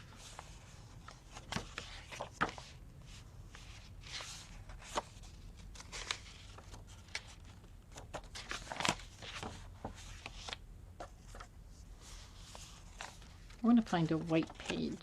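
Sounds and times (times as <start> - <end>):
paper pages rustling: 0.0 - 2.8, 3.5 - 15.0.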